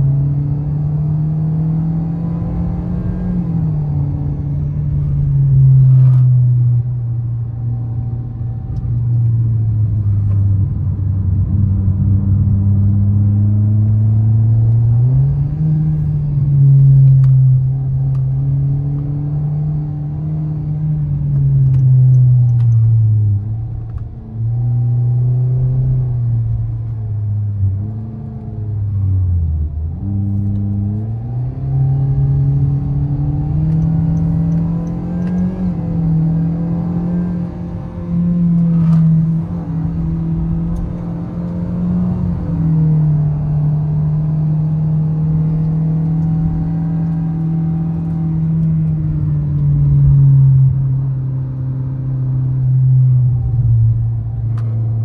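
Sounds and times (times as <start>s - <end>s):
car engine running under load: 1.8s - 55.0s.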